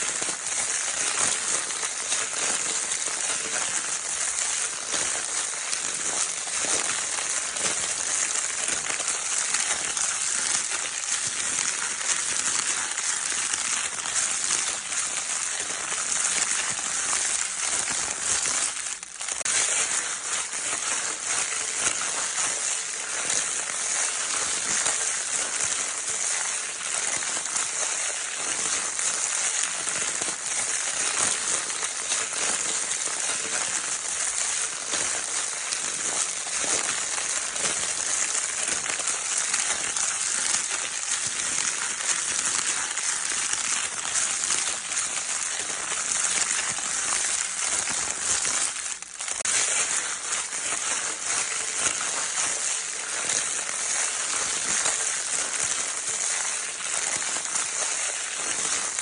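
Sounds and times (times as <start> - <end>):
crinkle paper toy crackling: 0.0 - 59.0.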